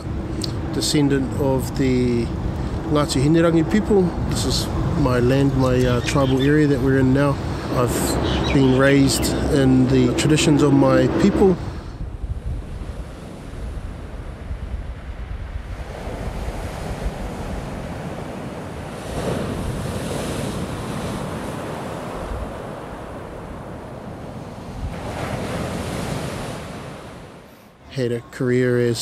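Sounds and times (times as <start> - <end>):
wind buffeting microphone: 0.0 - 26.9
waves crashing on beach: 0.0 - 27.8.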